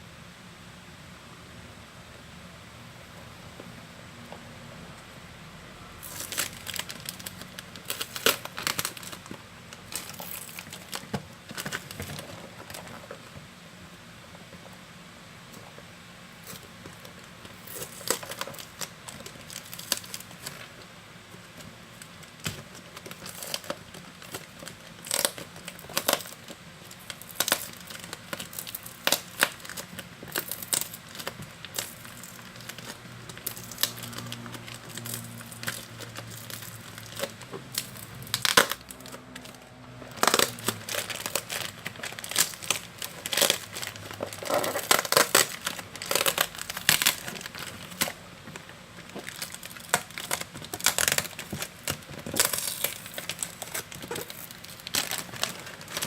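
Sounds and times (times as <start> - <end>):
packaging crinkling: 6.0 - 13.4, 16.4 - 56.0.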